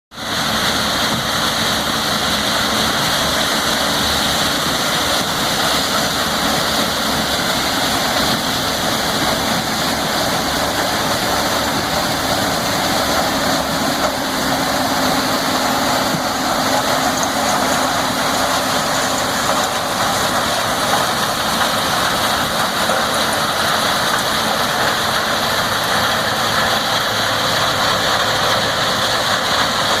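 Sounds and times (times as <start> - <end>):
combine harvester running: 0.1 - 30.0
continuous hiss: 0.2 - 30.0.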